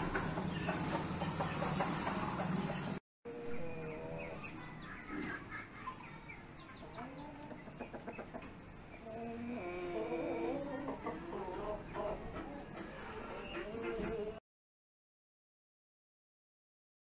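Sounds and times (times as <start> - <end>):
chickens clucking: 0.0 - 14.4.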